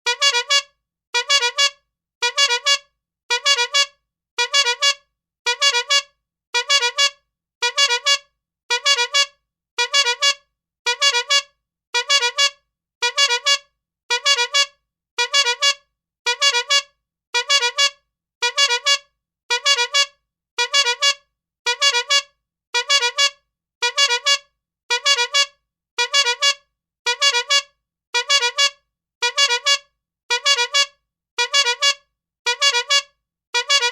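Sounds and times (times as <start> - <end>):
rubber-bulb horn honking: 0.1 - 0.6, 1.2 - 6.0, 6.6 - 11.4, 12.0 - 16.8, 17.4 - 22.2, 22.8 - 27.6, 28.2 - 33.9.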